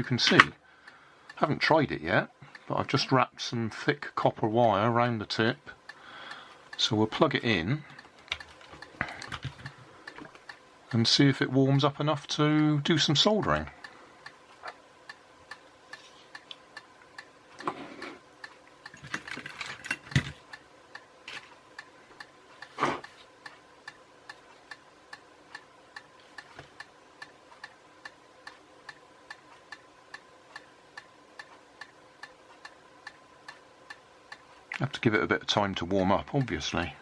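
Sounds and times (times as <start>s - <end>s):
clock ticking: 0.0s - 19.0s, 20.4s - 37.0s.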